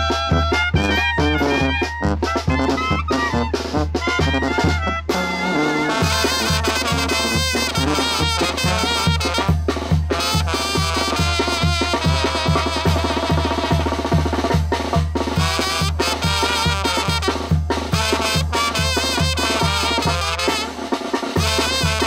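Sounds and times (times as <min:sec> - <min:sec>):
clarinets and trumpets melody: 0:00.0 - 0:14.5, 0:15.2 - 0:22.0
bass drum and snare beat: 0:00.0 - 0:22.0.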